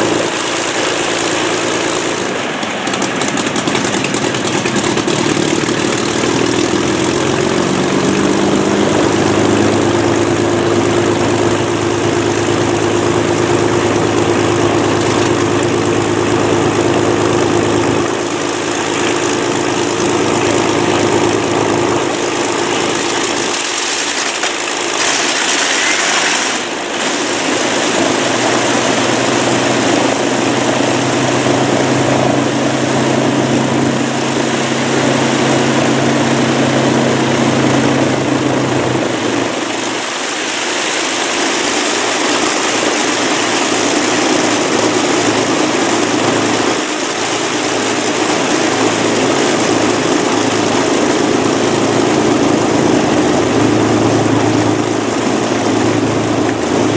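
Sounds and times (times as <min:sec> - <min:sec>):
aircraft engine and propeller drone: 0:00.0 - 0:56.9.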